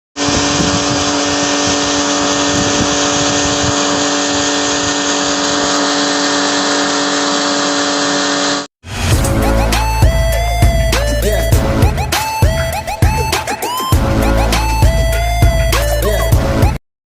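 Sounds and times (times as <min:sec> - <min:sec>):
machine humming: 0:00.2 - 0:16.8.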